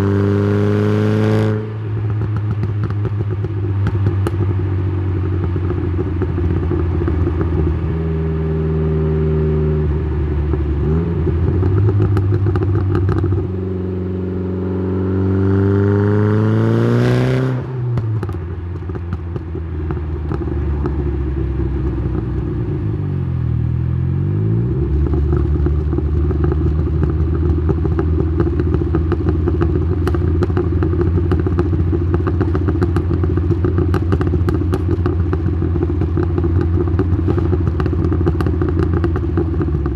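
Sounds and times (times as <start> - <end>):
car exhaust droning and revving: 0.0 - 39.9.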